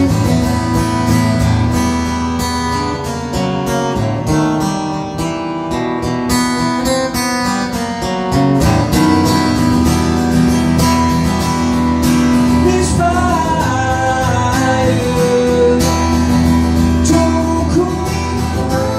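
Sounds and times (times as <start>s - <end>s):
acoustic guitar strumming chords: 0.0s - 18.9s.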